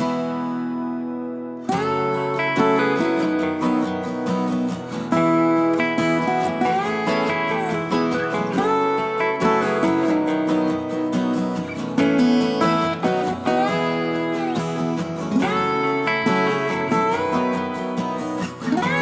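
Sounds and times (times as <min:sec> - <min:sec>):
country acoustic guitar music: 0:00.0 - 0:19.0.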